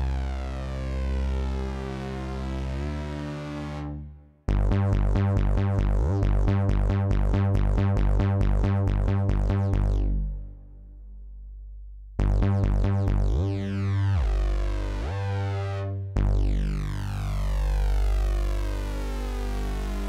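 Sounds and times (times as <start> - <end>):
synthesizer bass notes: 0.0 - 20.0.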